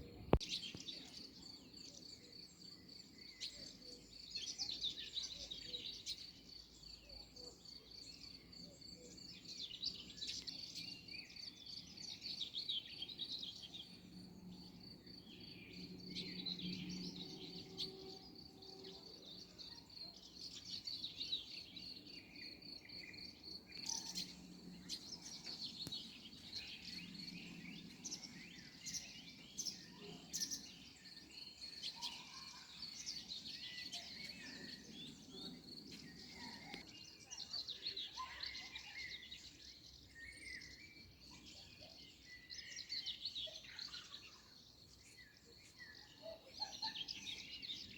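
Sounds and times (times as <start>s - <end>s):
wild birds singing and calling: 0.0s - 47.9s.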